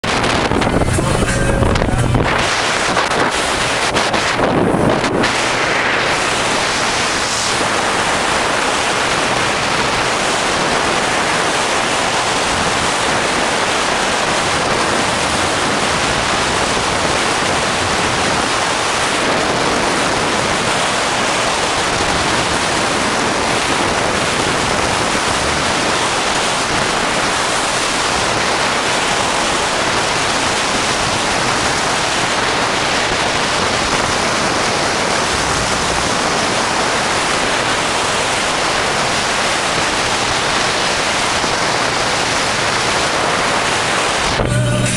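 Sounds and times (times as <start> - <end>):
water rushing around a boat: 0.0 - 44.9
wind rushing: 0.0 - 44.9.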